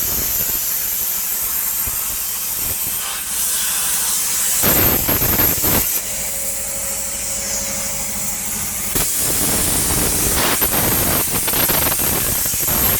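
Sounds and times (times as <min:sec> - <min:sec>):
plasma cutter torch hissing: 0:00.0 - 0:06.0, 0:07.2 - 0:12.9.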